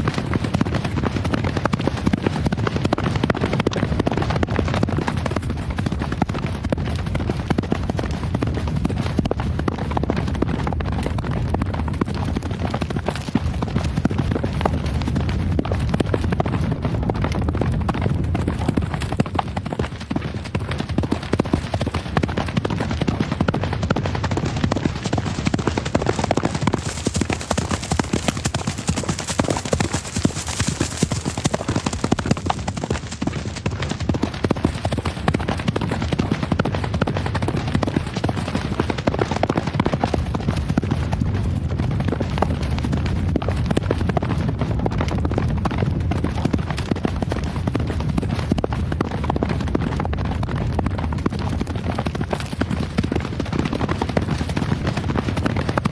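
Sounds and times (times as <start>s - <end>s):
horses galloping: 0.0s - 55.9s.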